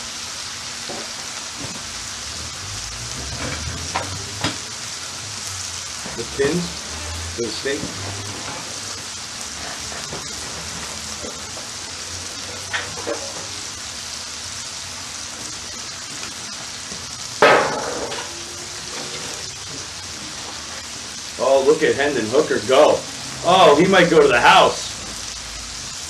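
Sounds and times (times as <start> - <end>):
food sizzling on griddle: 0.0 - 26.0.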